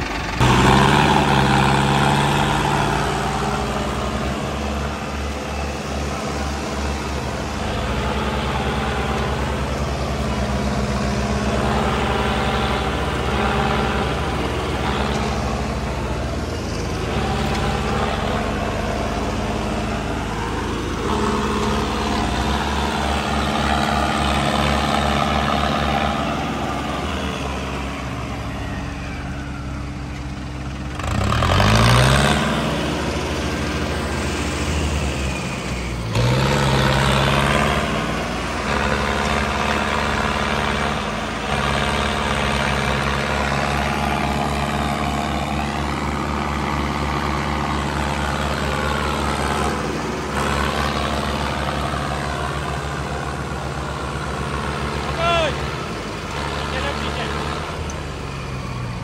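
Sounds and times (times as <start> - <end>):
diesel tractor engine revving: 0.0 - 59.0.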